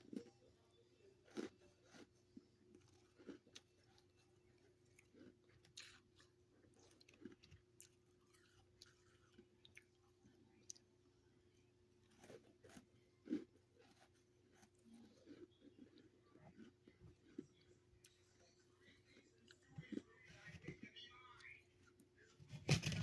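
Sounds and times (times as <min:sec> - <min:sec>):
person chewing frost: 0:00.0 - 0:20.8
faint steady hum: 0:00.0 - 0:23.0.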